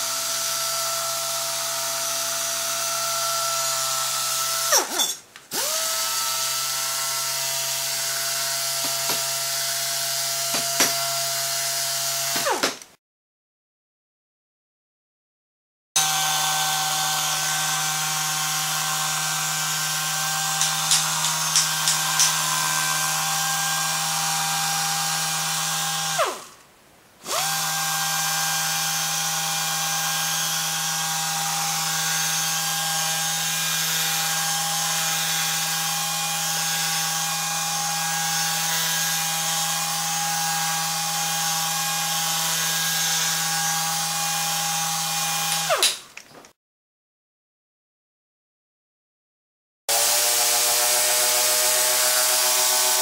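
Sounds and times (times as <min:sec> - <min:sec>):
pneumatic sander whining: 0:00.0 - 0:12.7, 0:16.0 - 0:26.6, 0:27.2 - 0:46.0, 0:49.9 - 0:53.0.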